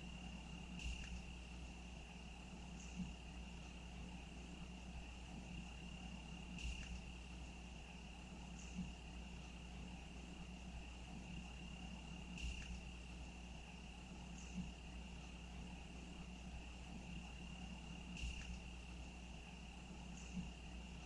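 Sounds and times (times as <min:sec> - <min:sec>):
insects trilling: 0:00.0 - 0:21.0
low steady rumble: 0:00.0 - 0:21.0.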